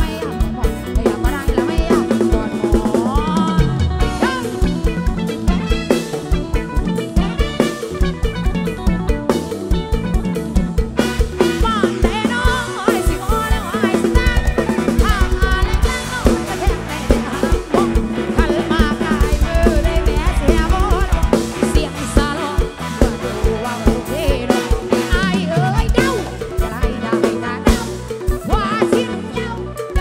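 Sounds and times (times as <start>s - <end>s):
fast bass drum runs: 0.0s - 28.8s
live band playing: 0.0s - 30.0s
pitch-bending lead melody: 0.0s - 30.0s.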